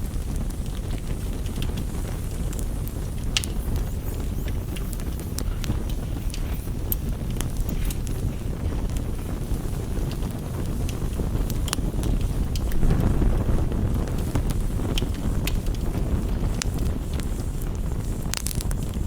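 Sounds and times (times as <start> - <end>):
campfire crackling: 0.0 - 19.0
rain on a window: 0.0 - 19.0.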